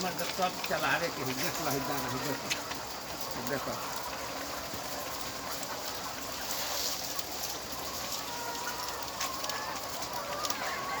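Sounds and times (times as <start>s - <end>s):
constant hiss: 0.0s - 10.7s
hens clucking and calling: 0.0s - 11.0s.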